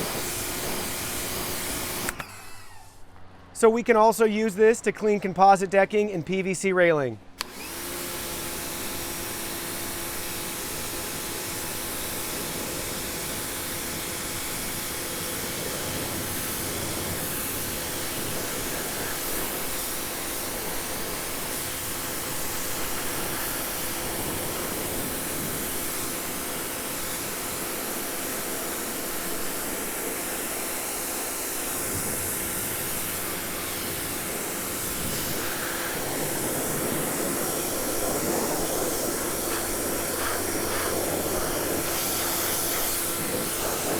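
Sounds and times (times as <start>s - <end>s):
water jet spraying onto decking: 0.0s - 2.3s, 7.4s - 43.9s
pressure washer motor humming: 0.0s - 3.0s, 7.4s - 43.9s.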